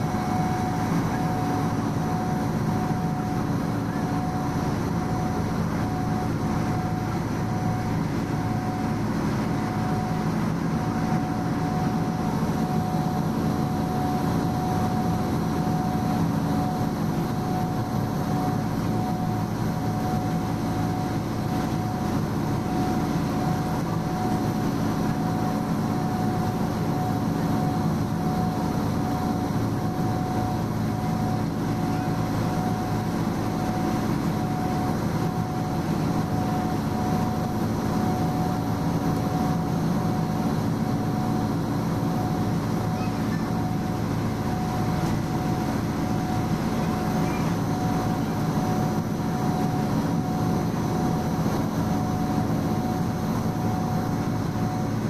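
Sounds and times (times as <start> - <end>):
constant high whine: 0.0 - 55.0
ferry diesel engines droning: 0.0 - 55.0.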